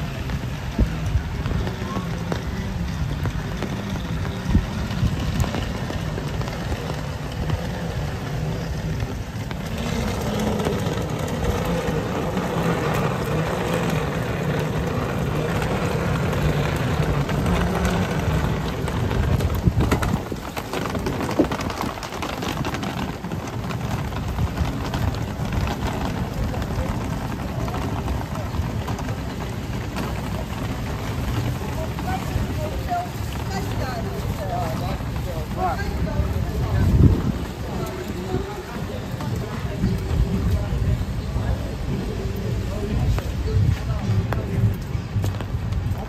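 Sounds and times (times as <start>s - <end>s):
city traffic: 0.0s - 46.0s
rain on wet pavement: 0.0s - 46.0s
vehicle engine running: 0.0s - 46.0s.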